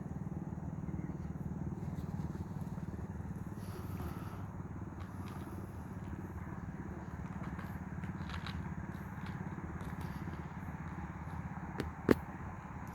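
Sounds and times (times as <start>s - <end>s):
engine idling: 0.0s - 12.9s.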